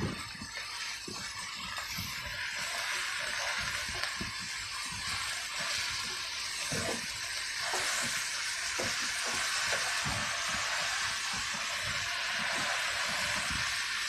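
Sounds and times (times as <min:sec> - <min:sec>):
leaves sizzling in hot oil: 0:00.0 - 0:14.0
spatula stirring and scraping: 0:00.0 - 0:14.0.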